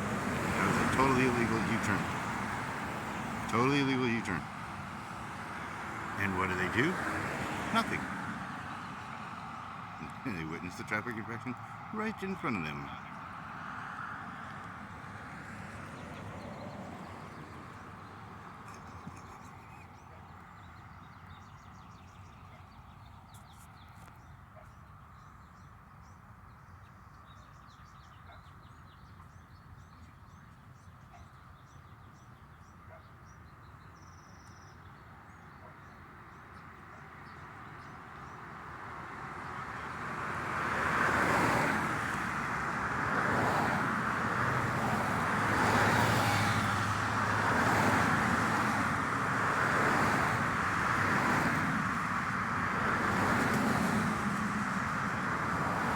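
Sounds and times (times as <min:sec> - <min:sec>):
low steady traffic hum: 0:00.0 - 0:55.9
vehicles passing close: 0:00.0 - 0:55.9.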